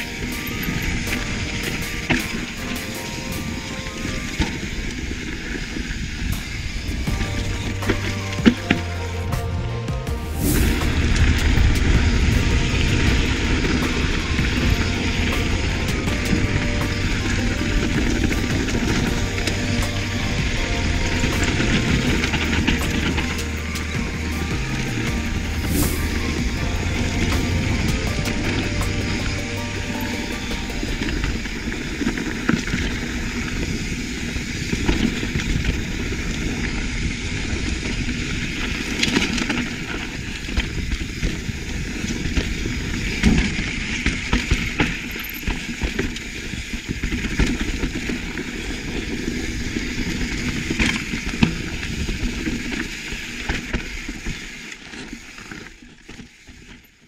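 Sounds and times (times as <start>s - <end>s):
wind rushing on microphone: 0.0s - 8.8s, 9.6s - 54.6s
bike rattling over rocks: 0.0s - 9.4s, 10.5s - 57.0s
bike tyres crunching on dirt: 0.0s - 57.0s.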